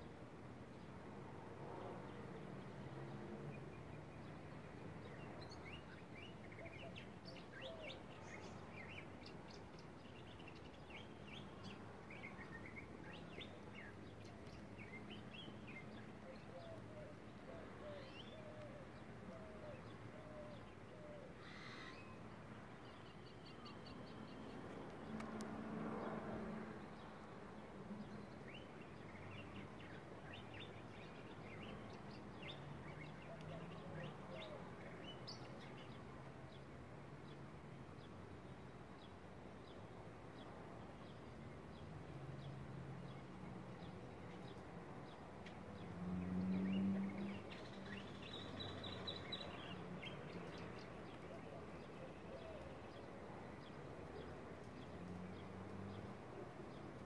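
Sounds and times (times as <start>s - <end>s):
faint birdsong: 0.0s - 57.0s
soft rush of noise: 0.0s - 57.0s.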